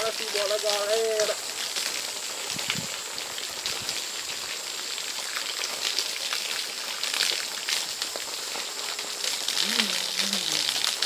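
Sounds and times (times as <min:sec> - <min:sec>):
water splashing from spout: 0:00.0 - 0:11.0.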